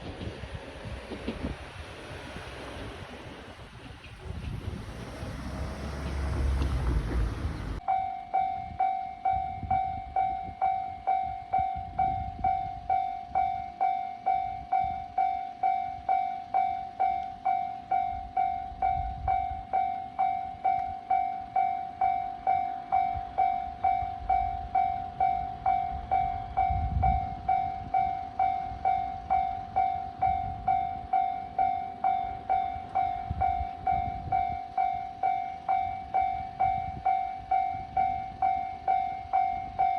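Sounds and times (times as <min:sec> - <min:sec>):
wind noise on microphone: 0:00.0 - 0:07.8, 0:08.4 - 0:39.9
level-crossing warning bell ringing: 0:04.8 - 0:39.9.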